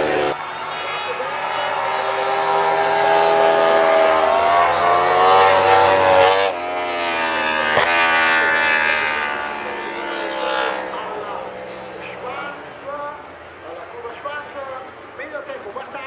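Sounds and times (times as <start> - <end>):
racing motorcycle engine revving: 0.0 - 12.9.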